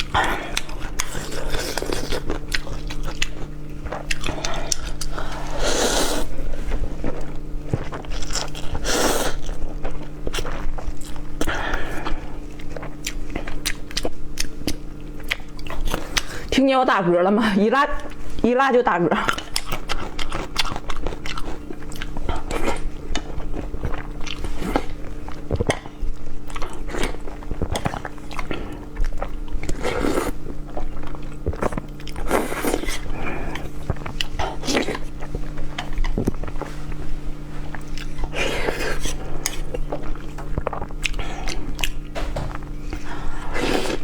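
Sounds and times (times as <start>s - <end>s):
person chewing noodles: 0.0s - 16.6s, 19.2s - 44.0s
steady low hum: 0.0s - 44.0s.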